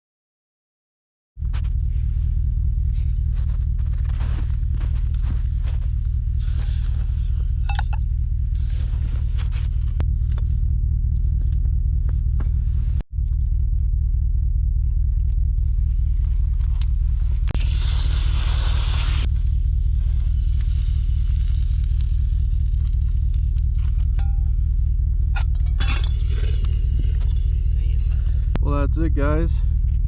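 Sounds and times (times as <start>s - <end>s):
low rumble: 1.4s - 30.0s.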